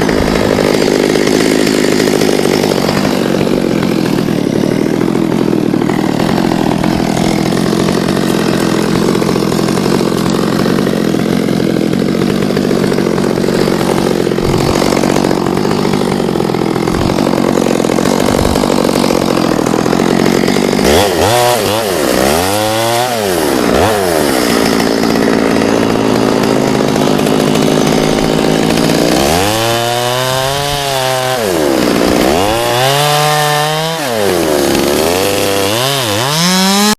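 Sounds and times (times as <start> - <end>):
chainsaw engine running: 0.0 - 36.9.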